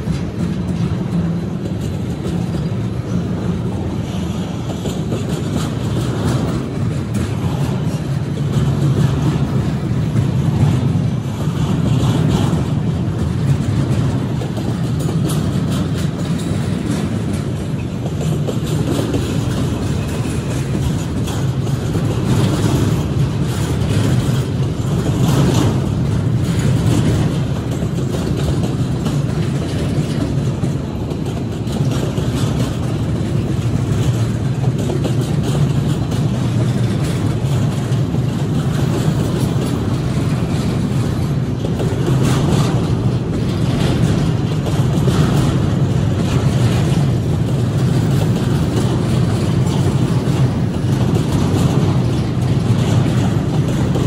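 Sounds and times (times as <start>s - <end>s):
steel wheels rumbling on rail: 0.0s - 54.0s
train wheels clattering: 0.0s - 54.0s.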